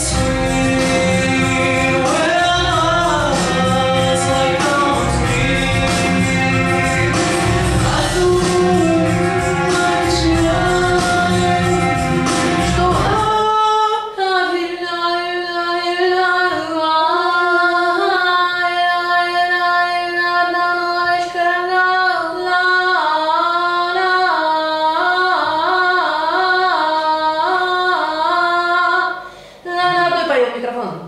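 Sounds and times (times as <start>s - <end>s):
person singing: 0.0s - 30.4s.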